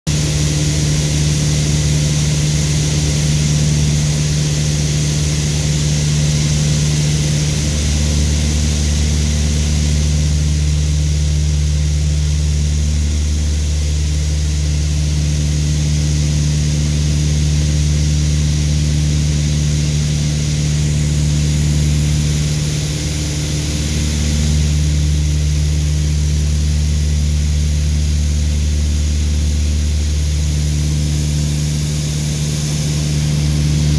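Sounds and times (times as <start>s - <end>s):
airplane engines droning: 0.2s - 33.9s.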